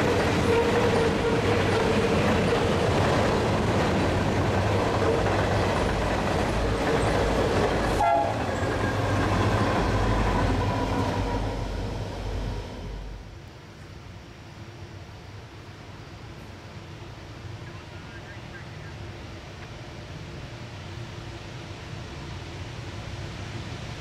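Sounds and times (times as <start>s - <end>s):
diesel locomotives passing: 0.0s - 24.0s
freight train rolling past: 0.0s - 24.0s.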